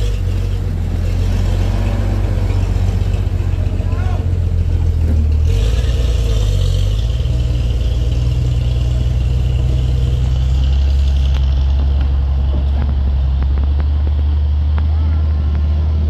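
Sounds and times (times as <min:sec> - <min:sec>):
diesel engine running under load: 0:00.0 - 0:16.0.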